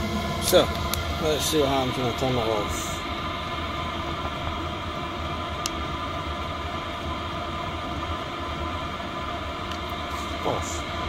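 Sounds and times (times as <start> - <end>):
air heater whirring hum: 0.0 - 11.0.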